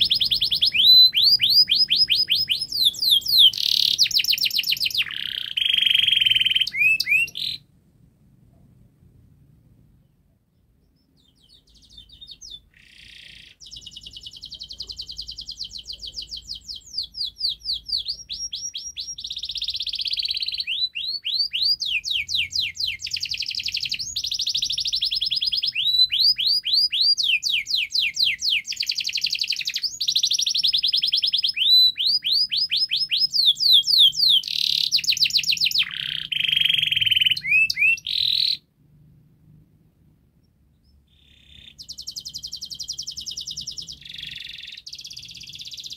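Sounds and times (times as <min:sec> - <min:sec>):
canary singing trills: 0:00.0 - 0:07.7, 0:10.0 - 0:38.7, 0:40.4 - 0:45.9.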